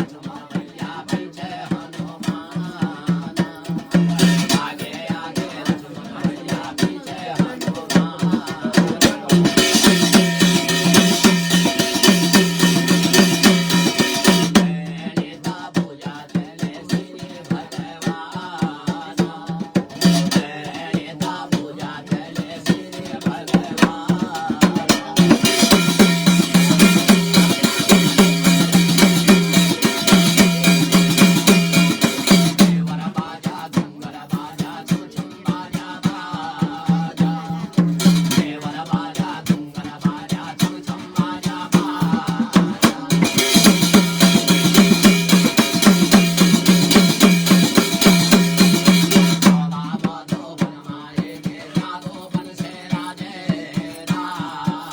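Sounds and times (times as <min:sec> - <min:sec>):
fast steady drumming: 0:00.0 - 0:54.9.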